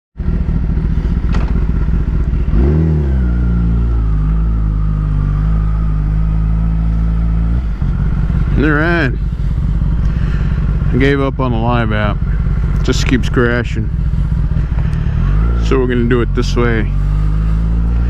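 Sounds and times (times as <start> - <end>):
motorcycle engine running: 0.2 - 18.0.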